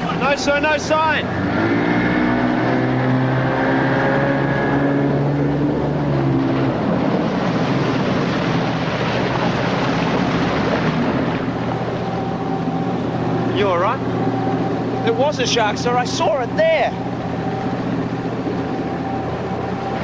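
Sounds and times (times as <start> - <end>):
motorboat engine humming: 0.0 - 20.0
rushing water: 0.0 - 20.0
wind: 0.0 - 20.0.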